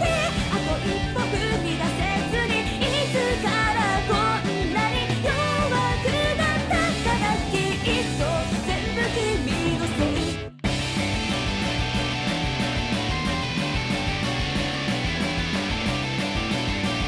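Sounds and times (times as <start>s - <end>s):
rock song with singing: 0.0s - 15.6s
electric guitar: 0.0s - 17.0s.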